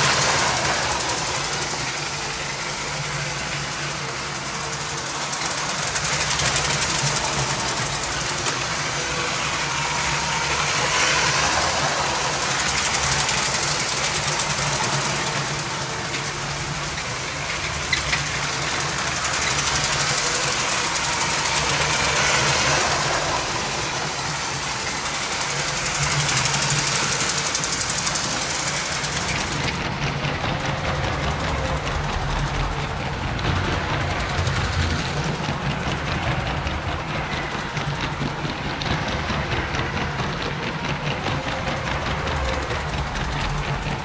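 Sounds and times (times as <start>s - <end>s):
toy train motors whirring: 0.0s - 44.0s
train wheels clicking: 0.0s - 44.0s.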